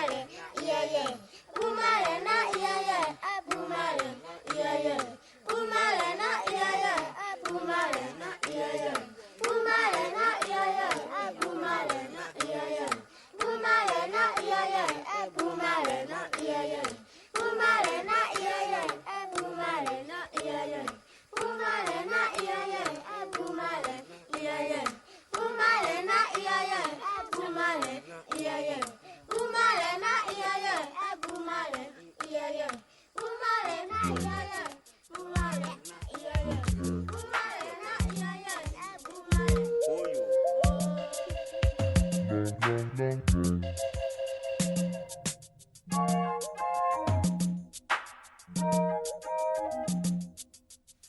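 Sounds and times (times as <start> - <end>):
children singing: 0.0 - 41.6
hand claps: 0.0 - 42.0, 42.6 - 42.9, 47.8 - 48.4.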